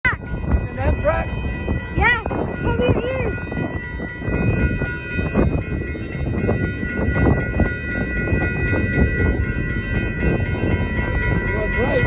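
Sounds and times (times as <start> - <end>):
train wheels rumbling on rails: 0.1 - 12.0.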